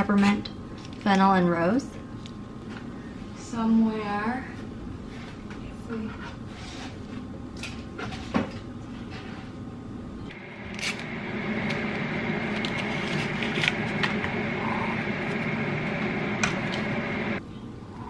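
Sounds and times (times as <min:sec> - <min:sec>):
appliance hum with high whine: 0:00.0 - 0:18.0.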